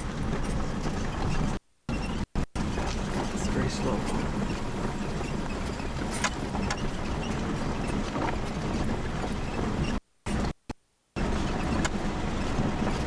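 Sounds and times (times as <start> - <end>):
ride rumbling and rattling: 0.0 - 10.5, 11.2 - 13.0.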